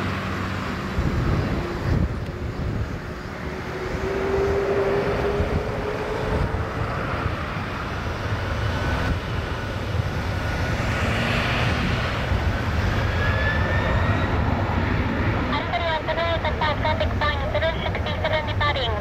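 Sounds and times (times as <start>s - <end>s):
jet engines rumbling and whining: 0.0s - 19.0s.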